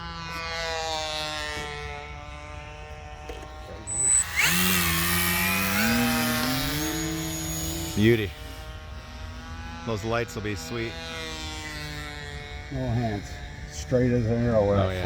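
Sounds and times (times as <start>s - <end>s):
model plane motor whining: 0.0s - 15.0s.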